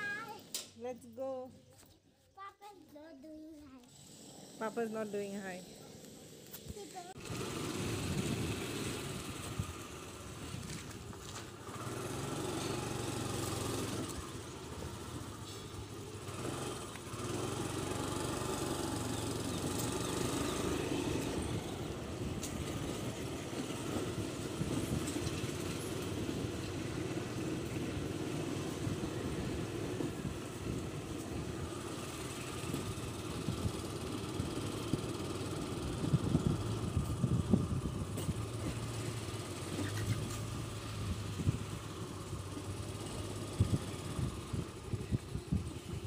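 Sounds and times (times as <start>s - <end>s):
small engine running: 2.5s - 46.0s.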